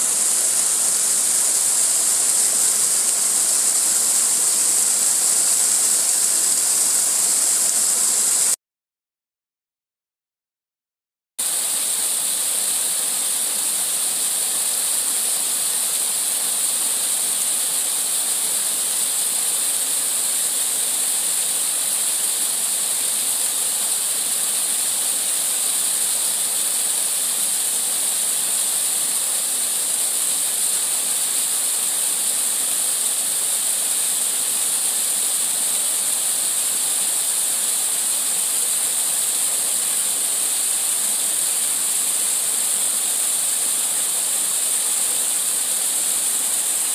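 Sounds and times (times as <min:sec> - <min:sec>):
small waterfall splashing: 0:00.0 - 0:08.6, 0:11.4 - 0:46.9.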